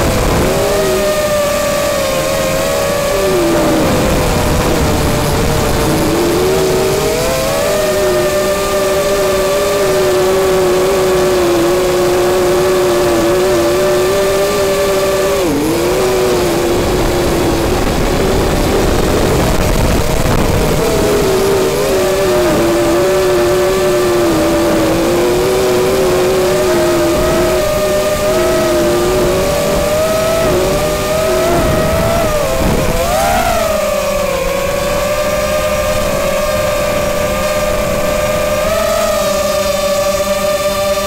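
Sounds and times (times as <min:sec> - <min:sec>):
drone propellers whining: 0:00.0 - 0:41.0
wind rushing over microphone: 0:00.0 - 0:41.0.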